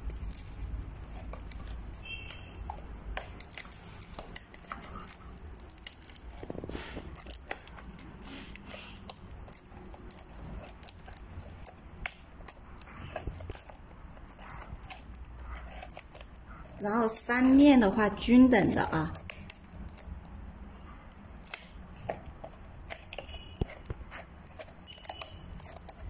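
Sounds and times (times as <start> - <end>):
lampshade rustling and crinkling: 0.0 - 26.0.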